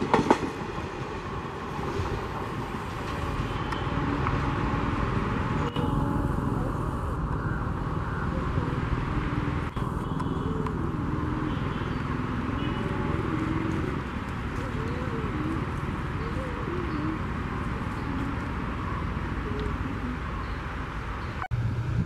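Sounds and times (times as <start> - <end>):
vehicle rumble: 0.0 - 22.0
faint wavering tones: 2.9 - 21.4.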